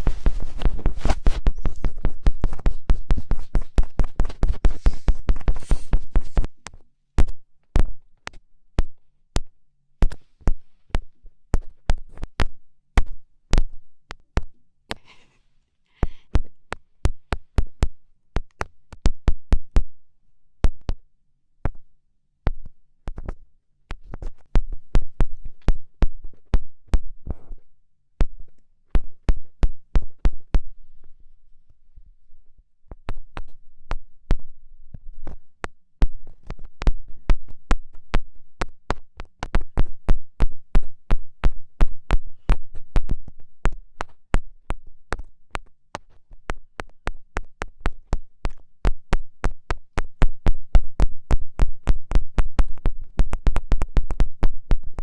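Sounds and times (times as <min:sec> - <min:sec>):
fingertips tapping microphone: 0:00.0 - 0:20.0, 0:20.6 - 0:21.0, 0:21.6 - 0:31.1, 0:32.9 - 0:55.0.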